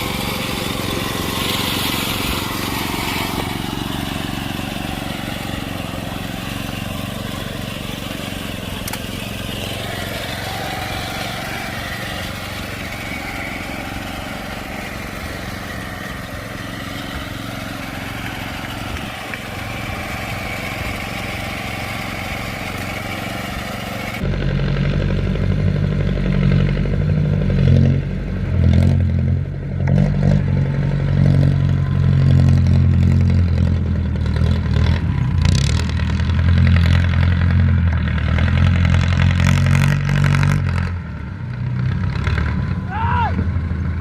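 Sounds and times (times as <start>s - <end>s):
tractor engine running hard: 0.0s - 44.0s.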